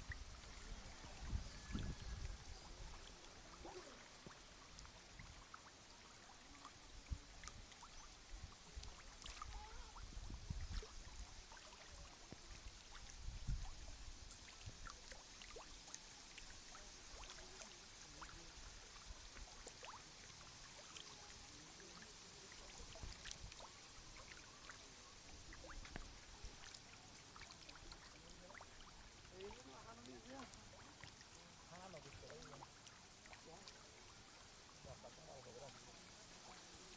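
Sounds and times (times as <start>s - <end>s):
faint water lapping: 0.0s - 36.9s.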